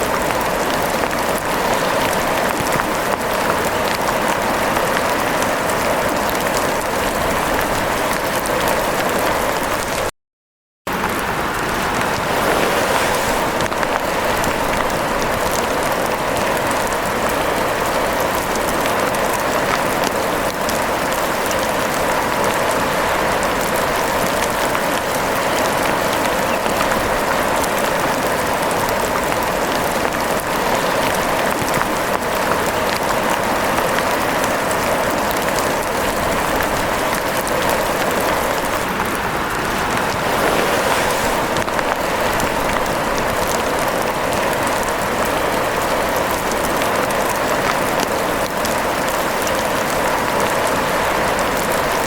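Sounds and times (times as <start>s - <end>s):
steady rain falling: 0.0s - 10.1s, 10.9s - 52.0s.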